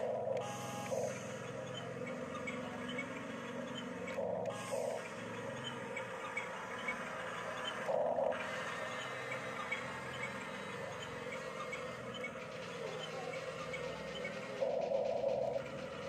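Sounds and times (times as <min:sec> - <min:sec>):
electric motors and gearboxes whirring: 0:00.0 - 0:16.0.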